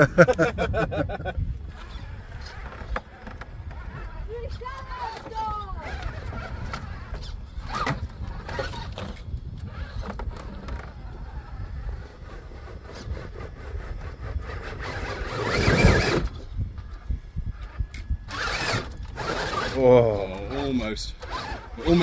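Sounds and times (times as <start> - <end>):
electric motor whirring: 1.6 - 22.0
tyres scraping on rock: 1.7 - 16.4, 18.3 - 22.0.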